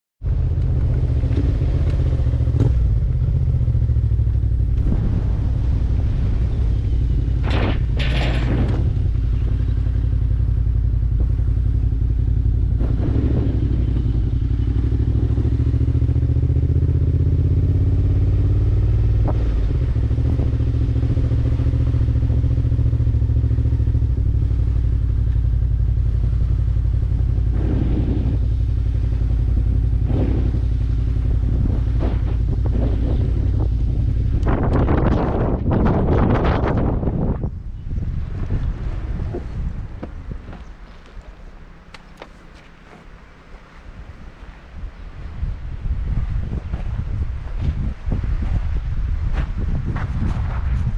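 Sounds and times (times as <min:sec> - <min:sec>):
motorcycle engine running: 0:00.2 - 0:43.3.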